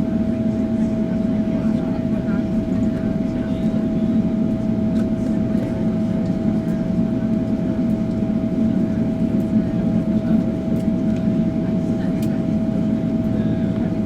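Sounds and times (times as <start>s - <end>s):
aircraft cabin rumble: 0.0s - 14.0s
constant hum tone: 0.0s - 14.0s.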